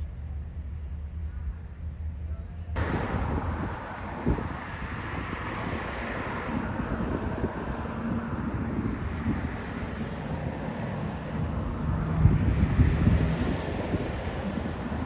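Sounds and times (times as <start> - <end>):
low steady train rumble: 0.0 - 15.0
wind buffeting microphone: 2.8 - 15.0.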